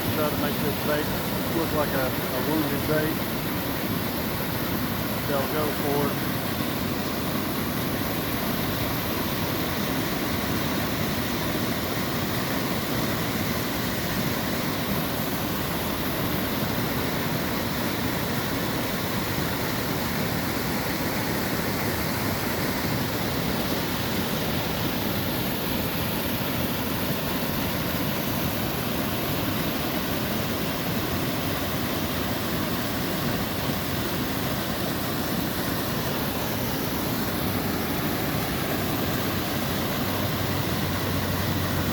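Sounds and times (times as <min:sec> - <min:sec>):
river water pouring over dam: 0:00.0 - 0:41.9.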